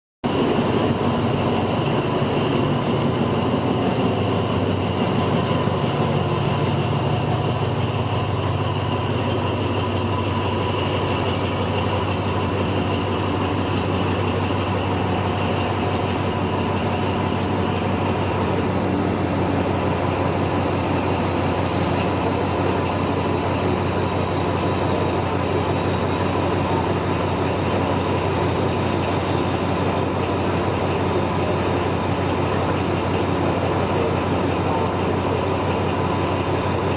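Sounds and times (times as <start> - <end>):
diesel locomotive engine humming: 0.2 - 36.9
thin steady whine: 0.3 - 36.9.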